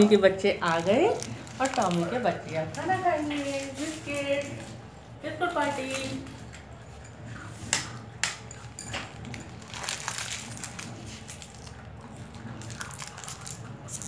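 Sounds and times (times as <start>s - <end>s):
puppies crunching biscuits: 0.6s - 4.8s, 5.4s - 14.0s.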